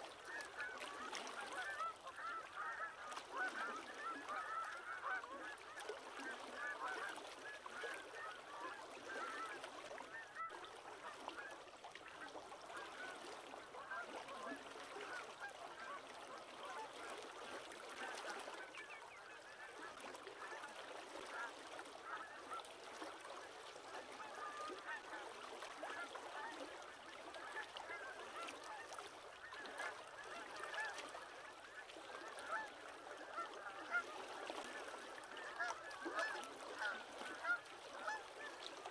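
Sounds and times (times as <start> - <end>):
flock of waterbirds calling: 0.1 - 38.9.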